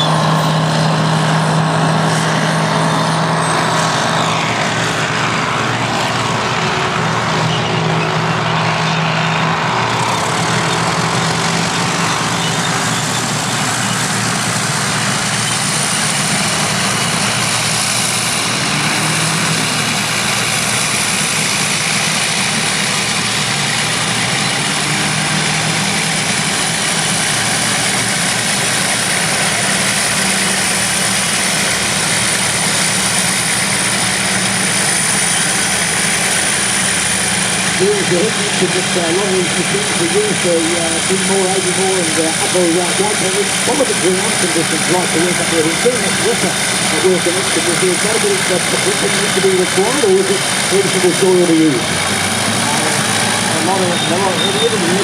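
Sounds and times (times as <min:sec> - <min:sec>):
bulldozer diesel engines: 0:00.0 - 0:55.0.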